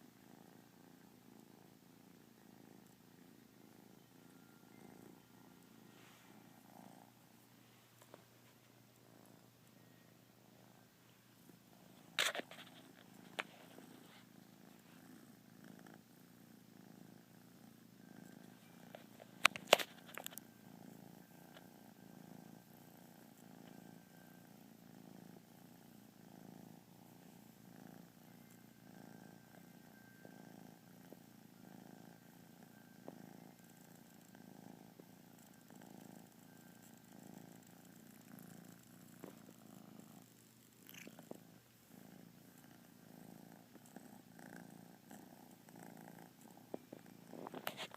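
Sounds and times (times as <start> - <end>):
kitten purring: 0.0 - 47.9.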